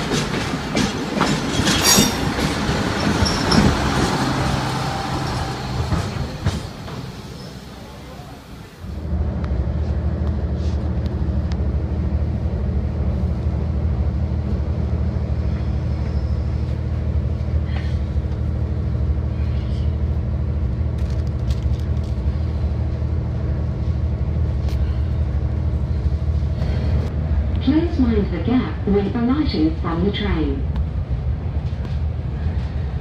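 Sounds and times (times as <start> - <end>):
train carriage rumble: 0.0 - 33.0.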